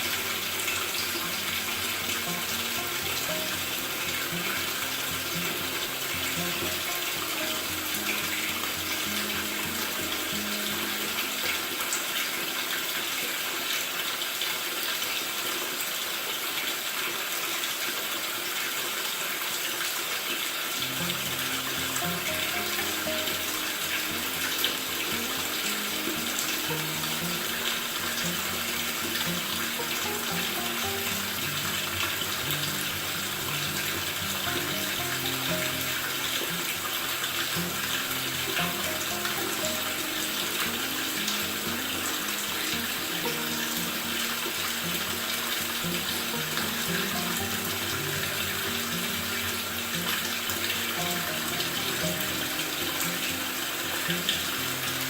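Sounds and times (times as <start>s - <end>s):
background music: 0.0s - 12.2s, 20.8s - 55.0s
water filling washer tub: 0.0s - 55.0s.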